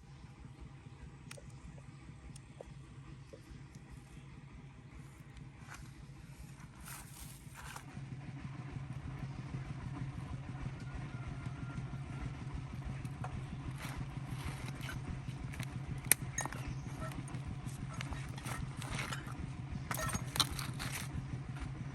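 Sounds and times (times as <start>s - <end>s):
engine humming: 0.0s - 21.9s.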